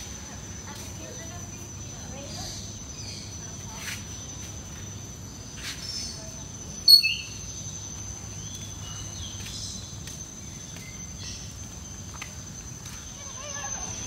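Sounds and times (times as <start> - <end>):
high-pitched insect drone: 0.0 - 14.0
faint bird chirps: 2.1 - 14.0.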